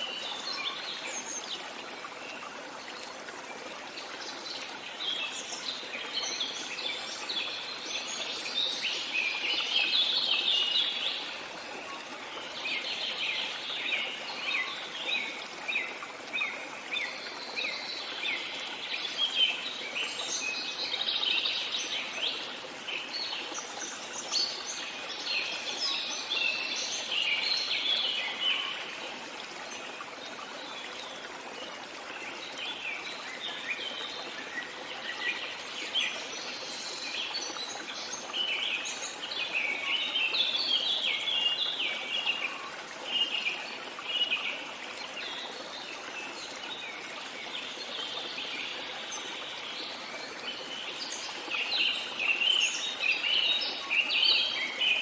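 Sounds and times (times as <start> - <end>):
running water hiss: 0.0 - 55.0.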